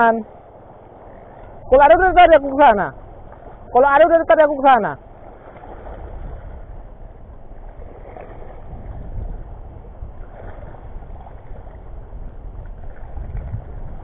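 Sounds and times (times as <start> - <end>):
shallow sea water washing: 0.0 - 14.0
wind buffeting microphone: 0.0 - 14.0.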